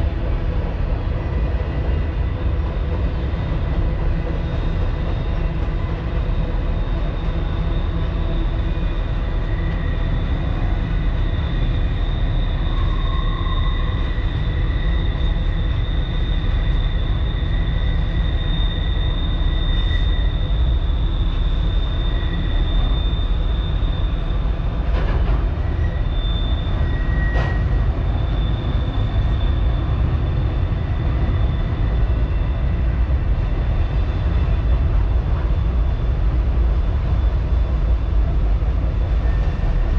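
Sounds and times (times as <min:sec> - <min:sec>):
freight train rumbling on bridge: 0:00.0 - 0:39.9.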